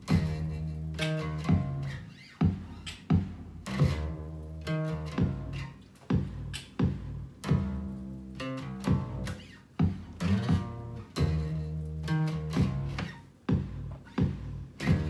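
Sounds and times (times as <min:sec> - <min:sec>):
plucked electric bass guitar: 0:00.0 - 0:15.0.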